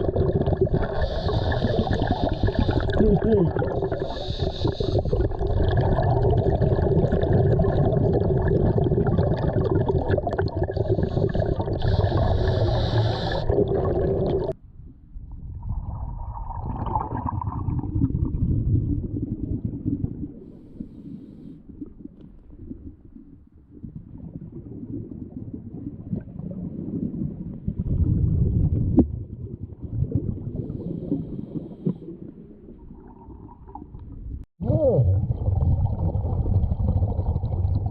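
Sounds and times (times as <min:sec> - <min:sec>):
underwater bubbles gurgling: 0:00.0 - 0:14.6, 0:15.5 - 0:37.9
steady underwater hum: 0:00.0 - 0:27.8, 0:30.2 - 0:37.9
low underwater rumble: 0:05.0 - 0:37.9.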